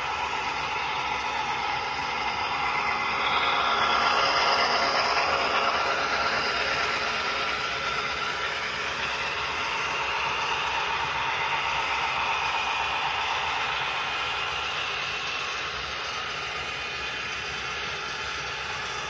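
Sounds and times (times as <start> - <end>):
model trains whirring on track: 0.0 - 19.0.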